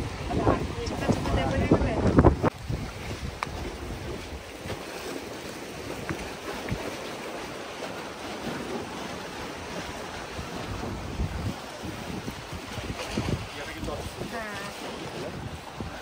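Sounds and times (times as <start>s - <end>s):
wind gusting on microphone: 0.0s - 7.1s, 8.5s - 16.0s
sea surf on sandy beach: 0.0s - 16.0s.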